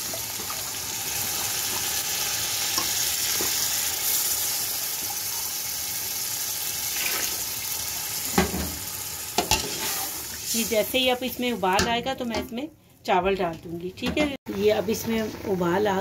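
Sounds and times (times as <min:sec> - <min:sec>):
food sizzling in a pot: 0:00.0 - 0:13.2, 0:13.8 - 0:16.0.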